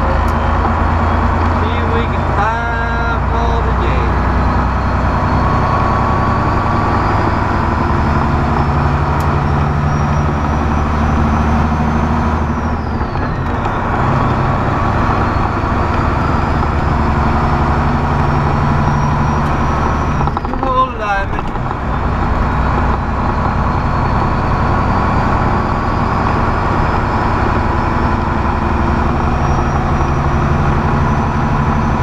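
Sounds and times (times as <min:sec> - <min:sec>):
diesel truck engine running: 0:00.0 - 0:32.0
turbocharger whine: 0:00.0 - 0:32.0.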